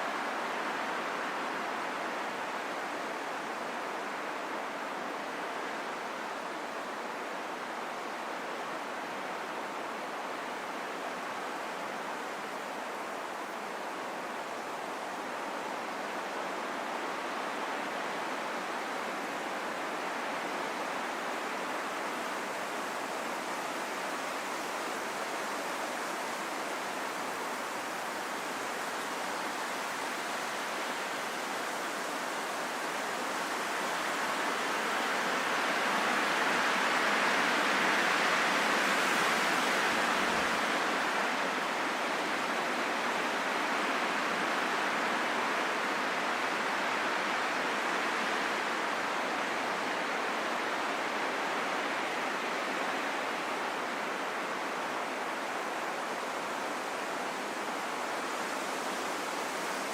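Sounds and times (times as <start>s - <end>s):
steady wind: 0.0s - 59.9s.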